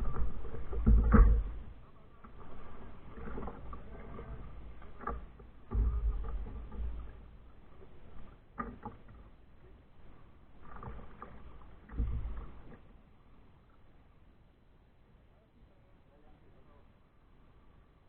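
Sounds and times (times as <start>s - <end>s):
paddle splashing water: 0.0s - 14.5s.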